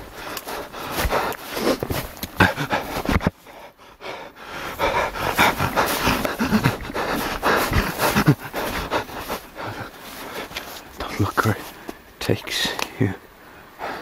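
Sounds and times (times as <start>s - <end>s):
person panting heavily: 0.0s - 10.9s, 13.5s - 14.0s.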